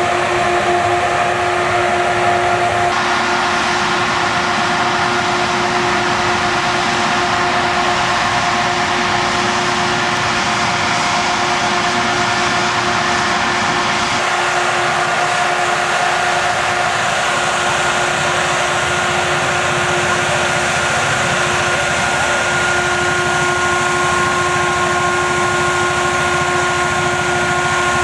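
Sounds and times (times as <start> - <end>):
water cannon blowing and hissing: 0.0 - 28.0.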